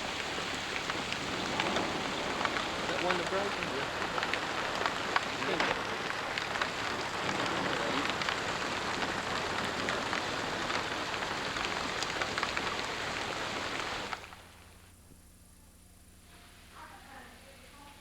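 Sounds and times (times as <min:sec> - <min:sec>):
heavy rain on a car: 0:00.0 - 0:14.8
faint hum: 0:00.0 - 0:18.0.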